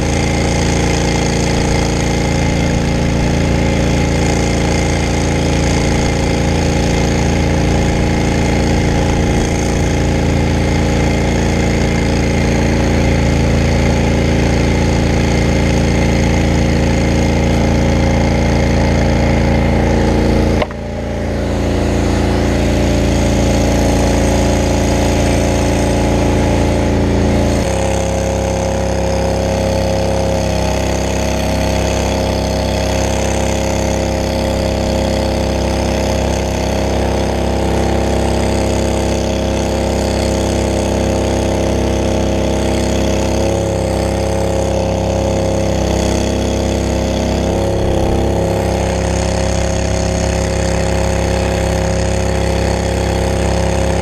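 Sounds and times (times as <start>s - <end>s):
hose spraying water: 0.0s - 54.0s
truck engine and water pump: 0.0s - 54.0s.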